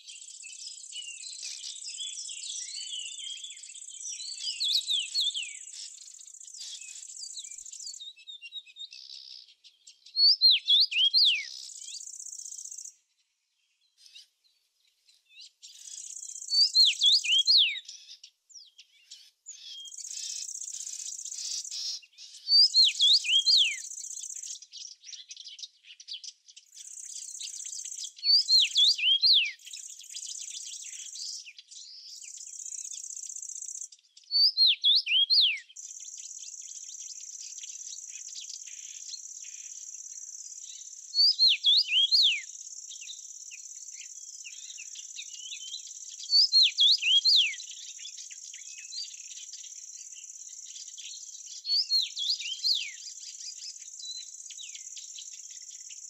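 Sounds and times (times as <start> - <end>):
songbird whistling phrase: 0.0 - 9.3, 10.2 - 12.9, 15.8 - 17.9, 19.5 - 24.5, 26.8 - 36.4, 38.2 - 55.9.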